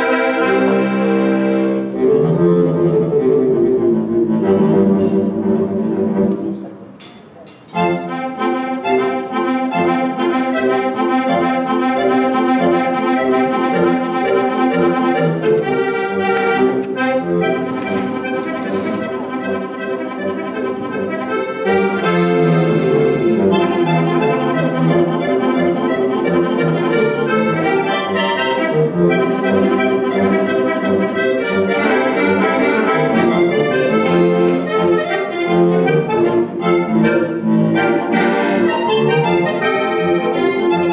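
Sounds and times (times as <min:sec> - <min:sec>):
accordion playing folk tune: 0:00.0 - 0:06.8, 0:07.7 - 0:40.9.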